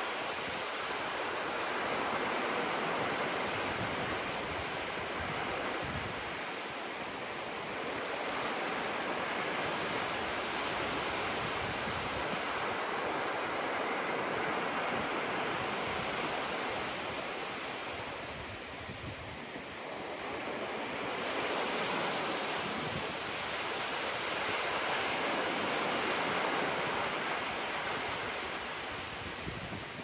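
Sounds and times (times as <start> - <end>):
ocean waves washing onto shore: 0.0 - 30.0
wind noise on microphone: 0.1 - 6.8, 7.9 - 30.0.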